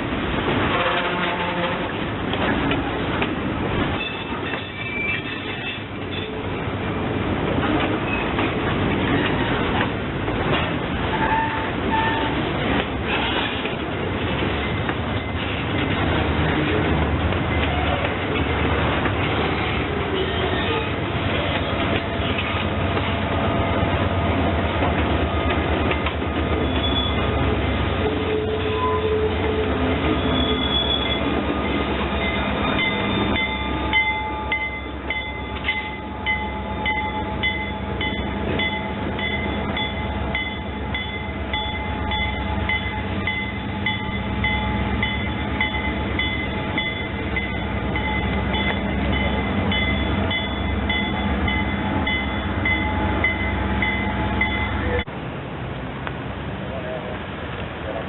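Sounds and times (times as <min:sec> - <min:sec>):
diesel locomotive engine rumble: 0:00.0 - 0:58.0
rail noise: 0:00.0 - 0:58.0.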